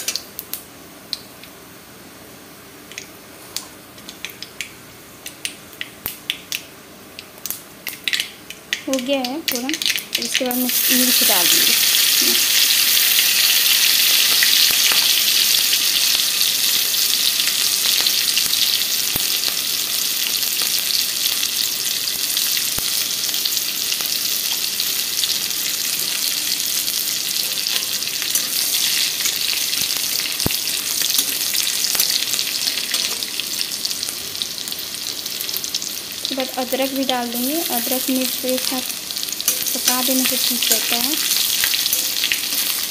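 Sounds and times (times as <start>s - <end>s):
chillies sizzling in hot oil: 7.4s - 42.9s.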